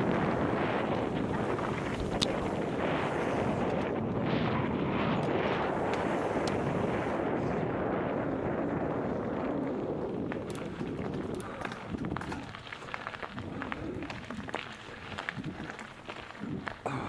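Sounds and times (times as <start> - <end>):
bike tyres rumbling on dirt: 0.0 - 17.0
wind buffeting microphone: 0.0 - 17.0.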